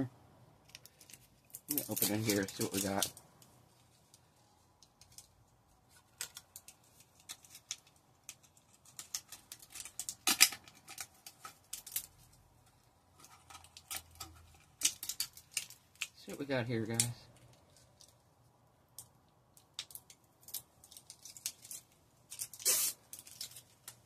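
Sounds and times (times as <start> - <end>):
plastic packaging crinkling: 0.6 - 18.2, 19.6 - 24.0.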